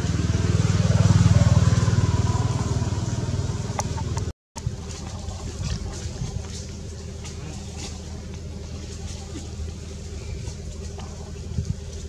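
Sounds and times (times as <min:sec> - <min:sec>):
engine running with low pulse: 0:00.0 - 0:12.0.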